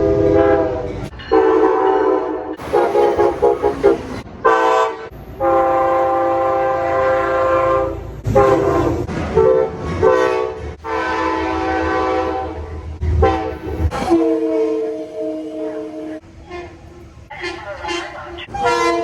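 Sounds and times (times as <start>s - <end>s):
locomotive air horns blasting: 0.0s - 19.0s
low rumble of moving trains: 0.0s - 19.0s.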